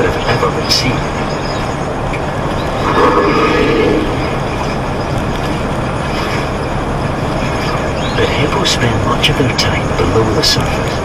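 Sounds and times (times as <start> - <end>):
truck engine drone: 0.0 - 11.0.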